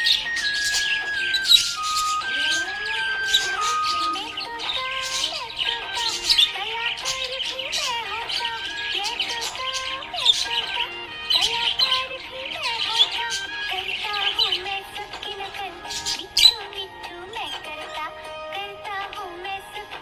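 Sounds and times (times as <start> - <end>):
budgerigar chirping and warbling: 0.0 - 18.0
music playing: 0.0 - 20.0.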